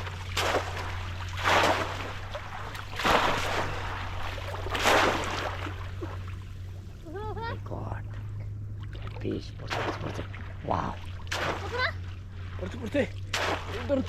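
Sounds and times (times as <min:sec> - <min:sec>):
water splashing: 0:00.0 - 0:14.0.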